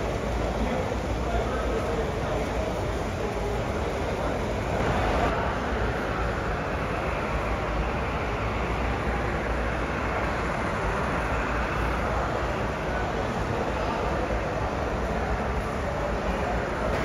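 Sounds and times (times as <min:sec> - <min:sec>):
model train running on track: 0:00.0 - 0:16.9
exhibition hall noise: 0:00.0 - 0:17.0.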